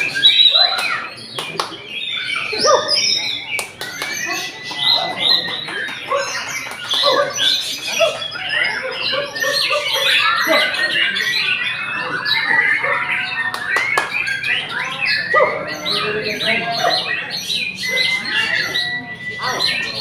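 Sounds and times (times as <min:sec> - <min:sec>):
other songbirds: 0:00.0 - 0:20.0
songbird singing: 0:00.0 - 0:20.0.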